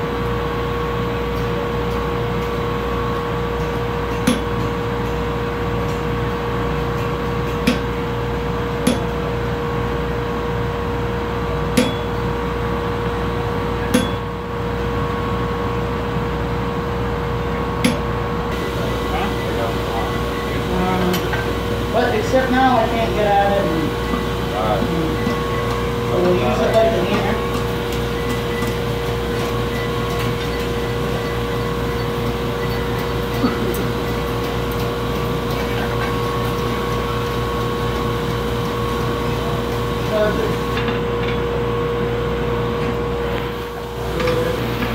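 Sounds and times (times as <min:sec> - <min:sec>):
blower fan droning: 0:00.0 - 0:44.9
forge humming: 0:00.0 - 0:44.9.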